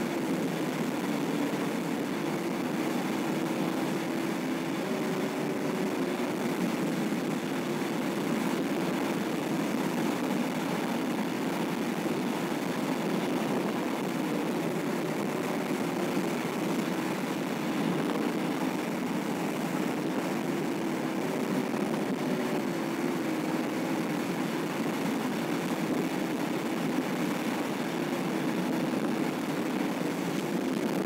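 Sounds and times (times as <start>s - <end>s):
car engine and tyre noise: 0.0s - 31.0s.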